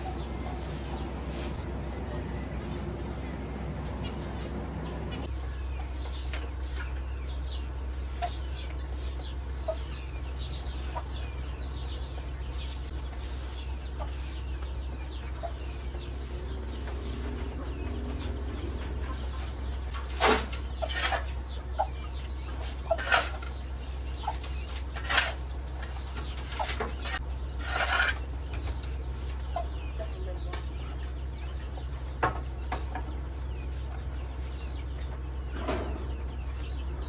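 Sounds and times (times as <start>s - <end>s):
chickens clucking: 0.0s - 37.0s
small birds chirping: 0.0s - 37.0s
steady low hum: 0.0s - 37.0s.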